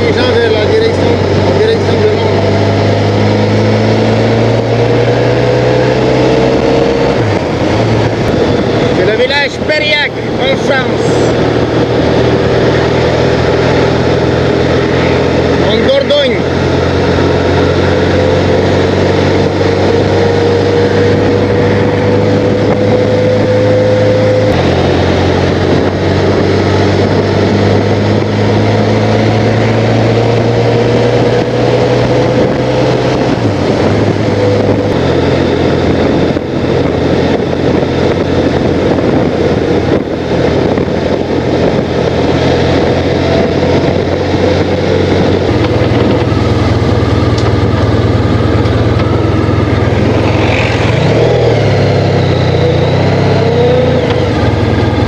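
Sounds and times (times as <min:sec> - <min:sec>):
motorcycle engine running: 0:00.0 - 0:55.0
wind rushing: 0:00.0 - 0:55.0.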